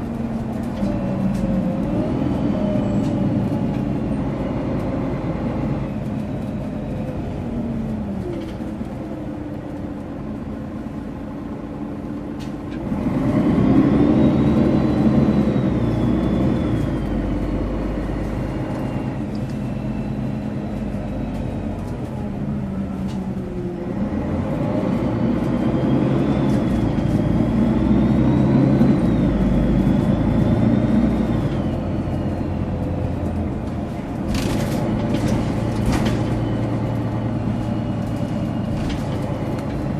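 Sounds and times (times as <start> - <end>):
bus diesel engine pulling away: 0.0 - 39.9.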